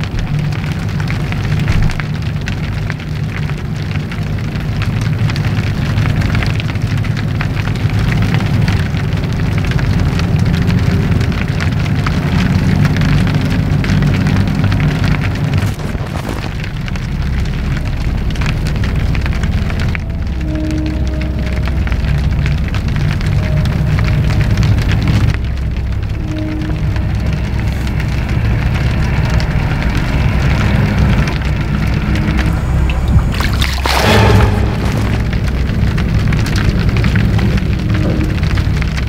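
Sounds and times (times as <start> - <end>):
low rumble: 0.0 - 39.0
steady rain pattering: 0.0 - 39.0.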